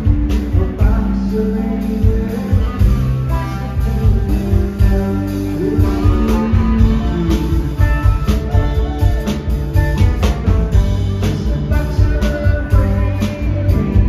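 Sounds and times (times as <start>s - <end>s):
bass guitar: 0.0s - 14.0s
drums: 0.0s - 14.0s
electric guitars: 0.0s - 14.0s.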